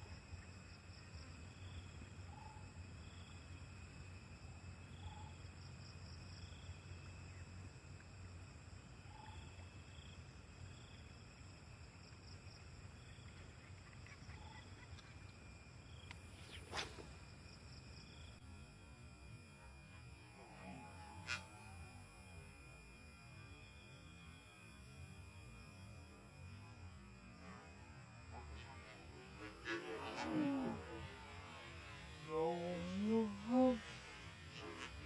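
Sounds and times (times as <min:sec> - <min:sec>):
insects droning: 0:00.0 - 0:35.0
short insect call: 0:00.0 - 0:35.0.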